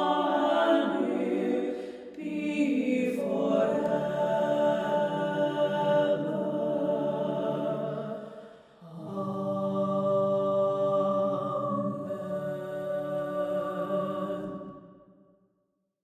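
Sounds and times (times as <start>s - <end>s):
choir singing chords: 0.0s - 15.2s.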